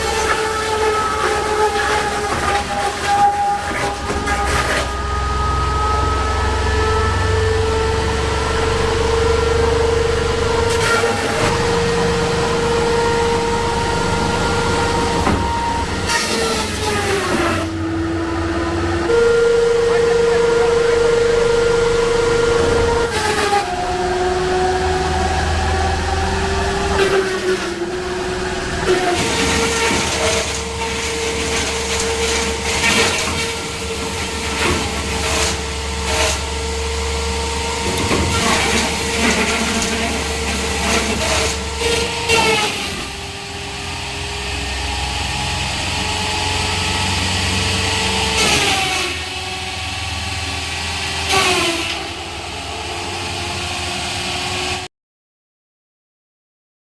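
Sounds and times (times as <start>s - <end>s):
wood cracking in chipper: 0.0s - 17.9s, 22.7s - 53.2s
wood chipper humming: 0.0s - 54.9s.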